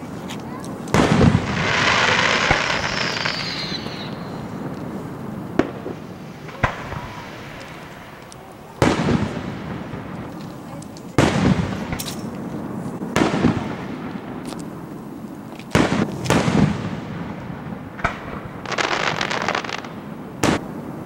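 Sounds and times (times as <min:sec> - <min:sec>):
dense firework crackling: 0:00.0 - 0:21.0
firework crack: 0:00.0 - 0:21.0
fireworks booming: 0:00.0 - 0:21.0.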